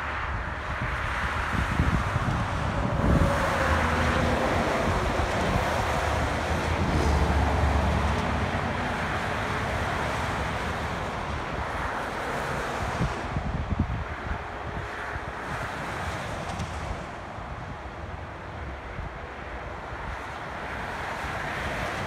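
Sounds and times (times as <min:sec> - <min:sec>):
highway traffic passing: 0:00.0 - 0:22.0.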